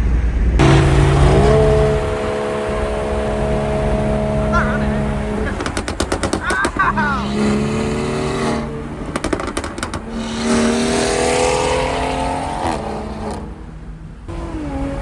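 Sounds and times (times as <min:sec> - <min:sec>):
car engine accelerating: 0:00.5 - 0:15.0.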